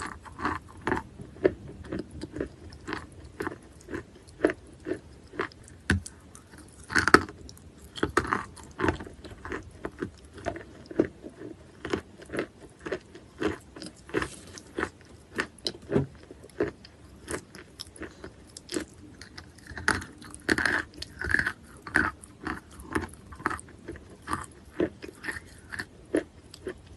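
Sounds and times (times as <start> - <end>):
chewing chalk crunches: 0.0 - 26.9.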